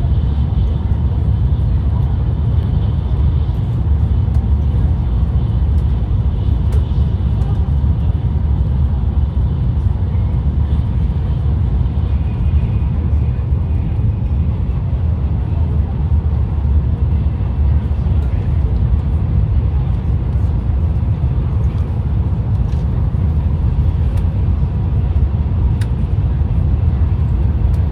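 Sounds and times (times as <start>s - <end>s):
train rumble from inside: 0.0s - 27.9s.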